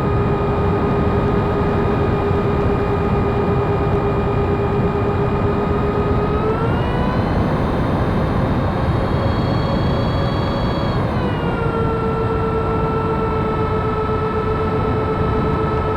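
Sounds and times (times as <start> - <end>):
electric ducted fans whining: 0.0 - 15.9.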